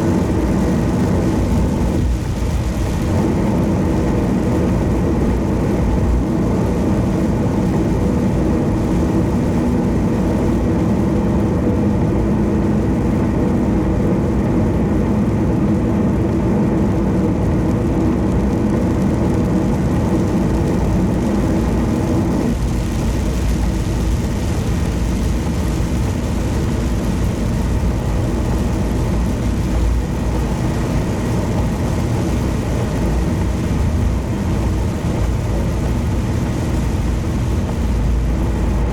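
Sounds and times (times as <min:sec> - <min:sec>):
car engine hum: 0:00.0 - 0:38.9
tyre and road noise: 0:00.0 - 0:38.9.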